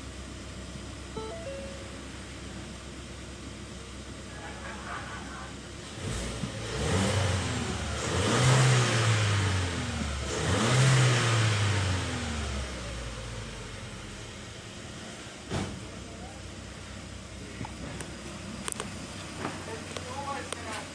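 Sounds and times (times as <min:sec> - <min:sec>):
car engine revving and idling: 0:01.9 - 0:20.9.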